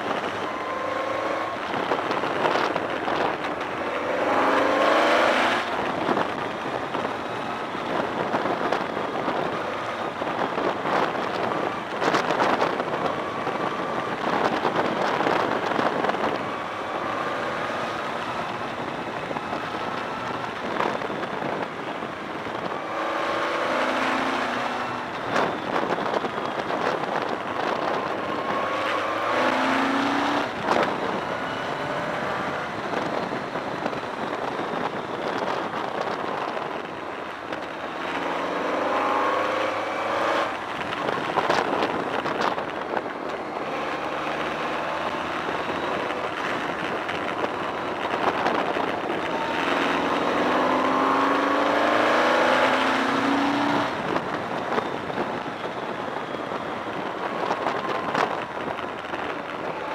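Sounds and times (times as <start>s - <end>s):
wind and rain noise: 0.0s - 59.9s.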